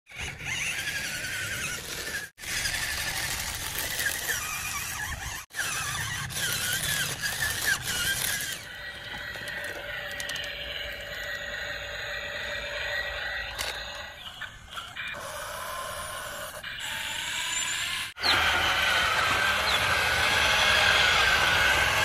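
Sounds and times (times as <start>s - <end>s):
toy electric motor whining: 0.1s - 22.0s.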